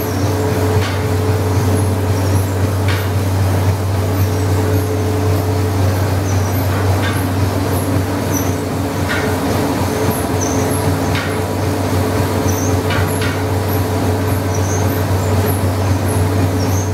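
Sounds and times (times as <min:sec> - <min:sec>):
rice mill machinery humming: 0:00.0 - 0:16.9.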